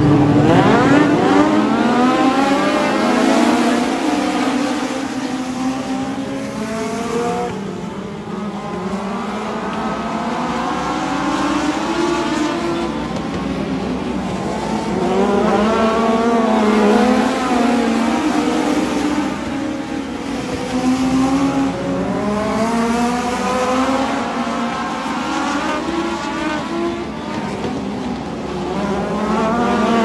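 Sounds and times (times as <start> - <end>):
race car engines: 0.0 - 30.0.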